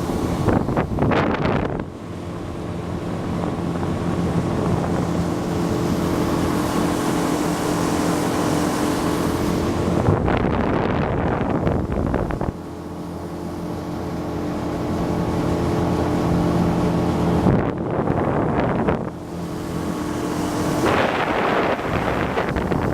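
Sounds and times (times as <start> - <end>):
boat motor droning: 0.0 - 22.9
wind buffeting microphone: 0.0 - 22.9.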